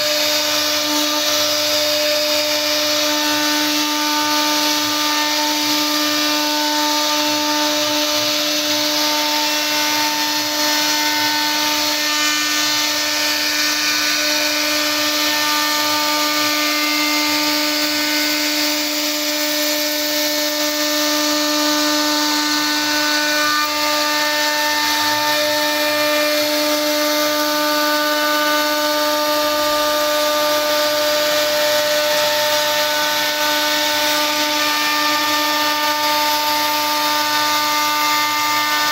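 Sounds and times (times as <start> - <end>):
cutter carving wood: 0.0 - 38.9
router spindle whine: 0.0 - 38.9.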